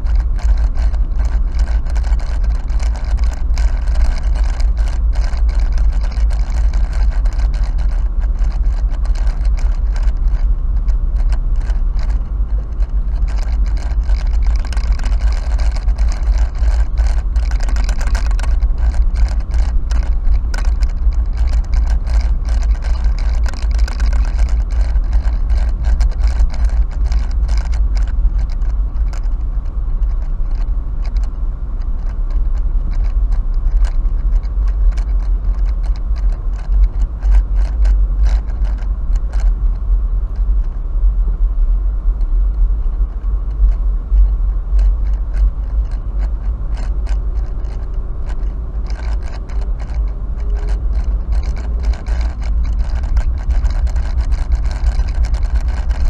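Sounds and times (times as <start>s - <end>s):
car engine and road rumble: 0.0s - 56.0s
small clicks and rattles: 0.0s - 56.0s.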